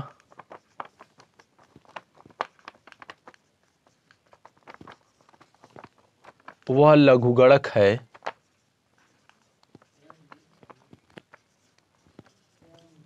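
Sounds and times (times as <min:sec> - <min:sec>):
marker scratching on whiteboard: 0:00.0 - 0:13.0.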